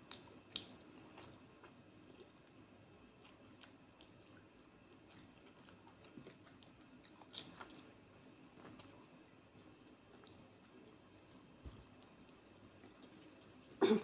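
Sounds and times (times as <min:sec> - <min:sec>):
faint close-up chewing: 0:00.0 - 0:13.8.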